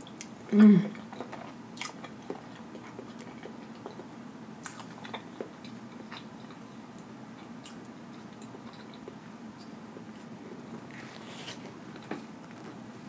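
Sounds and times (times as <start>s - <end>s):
person chewing food: 0.0s - 12.8s.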